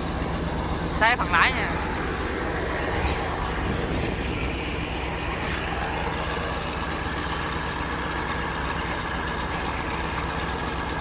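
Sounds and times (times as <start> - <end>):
engine running: 0.0 - 11.0
high-pitched whine: 0.0 - 11.0.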